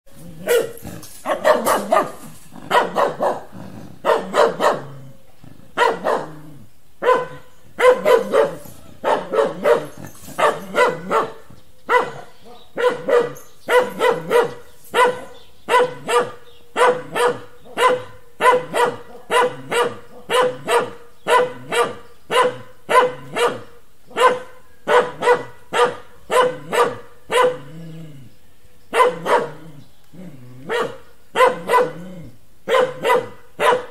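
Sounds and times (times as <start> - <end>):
dog barking: 0.4 - 4.9, 5.8 - 6.4, 7.0 - 27.7, 28.9 - 29.6, 30.6 - 32.0, 32.7 - 33.9.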